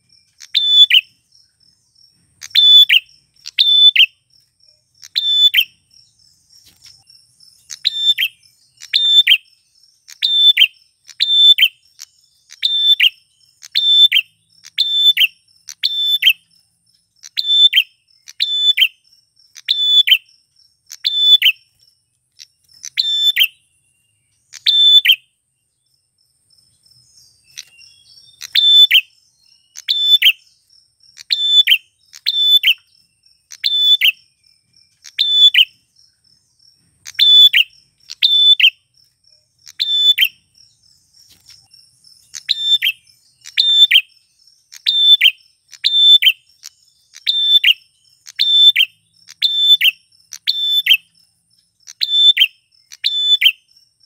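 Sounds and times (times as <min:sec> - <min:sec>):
bird sharp loud chirps: 0:00.0 - 0:54.0.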